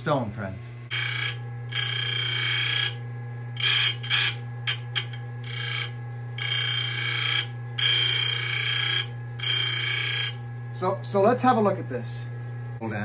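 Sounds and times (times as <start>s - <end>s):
high-pitched grinding: 0.0s - 12.2s
grinder motor hum: 0.0s - 13.0s.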